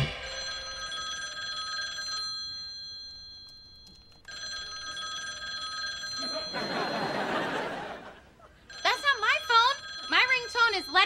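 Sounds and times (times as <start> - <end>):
telephone ringing: 0.0 - 11.0.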